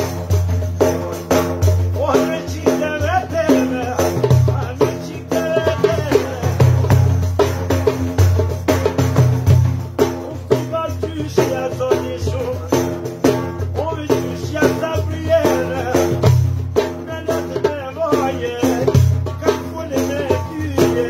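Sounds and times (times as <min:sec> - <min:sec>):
man singing: 0:00.0 - 0:07.9, 0:10.0 - 0:21.0
frame drum with jingles: 0:00.0 - 0:21.0.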